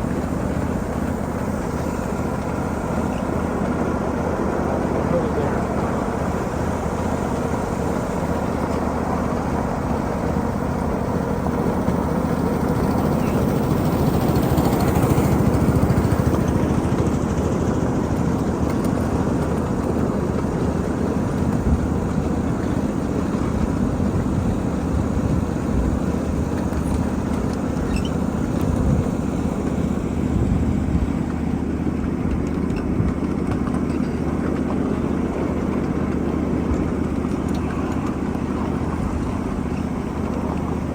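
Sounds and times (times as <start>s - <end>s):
wheels rumbling on rails: 0.0s - 40.9s.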